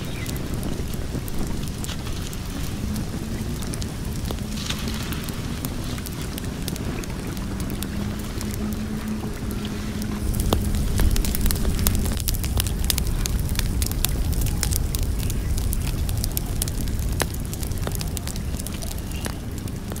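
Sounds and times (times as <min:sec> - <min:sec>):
low steady hum: 0:00.0 - 0:20.0
wood fire crackling and popping: 0:00.0 - 0:20.0.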